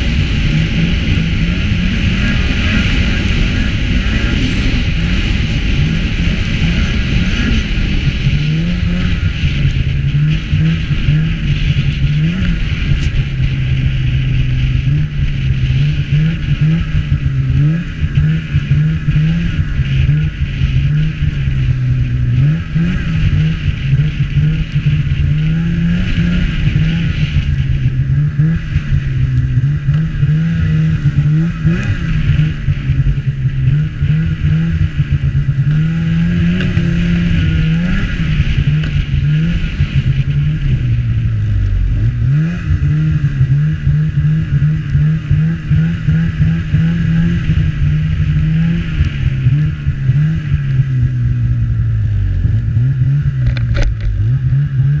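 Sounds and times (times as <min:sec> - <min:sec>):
snowmobile engine revving: 0:00.0 - 0:55.0
steady rushing noise: 0:00.0 - 0:55.0.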